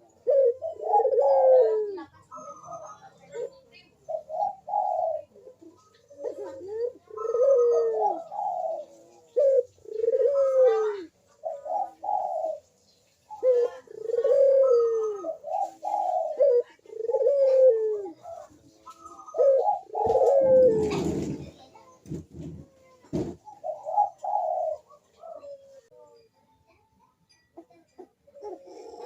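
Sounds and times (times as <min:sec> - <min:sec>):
dove cooing: 0:00.0 - 0:26.2, 0:27.6 - 0:29.0.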